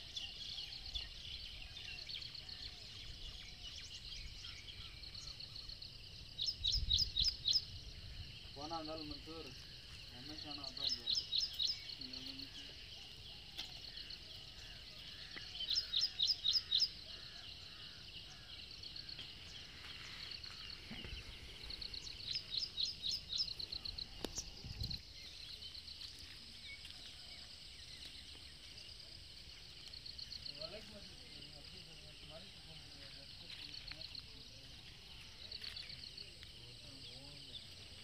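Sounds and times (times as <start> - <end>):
faint low outdoor background: 0.0 - 38.0.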